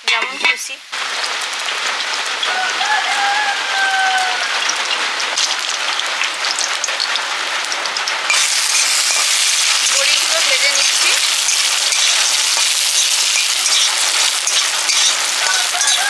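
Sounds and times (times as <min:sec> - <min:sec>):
dumplings frying in oil: 0:00.0 - 0:16.0
rain falling on a pond: 0:00.9 - 0:16.0.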